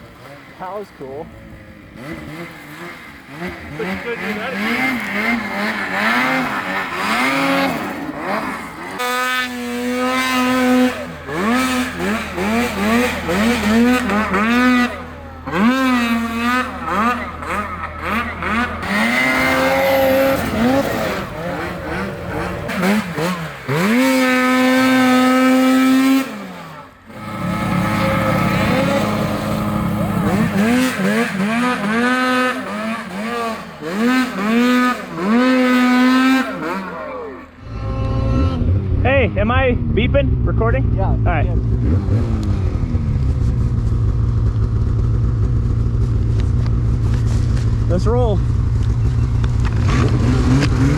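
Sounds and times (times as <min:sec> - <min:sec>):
snowmobile engines revving: 0:00.0 - 0:50.9.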